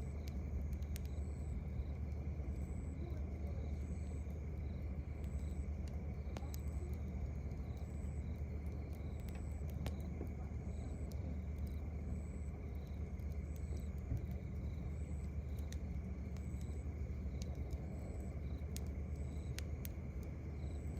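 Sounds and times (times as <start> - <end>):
campfire crackling pops: 0.0 - 20.9
cricket chirping: 0.0 - 20.9
steady low rumble: 0.0 - 20.9.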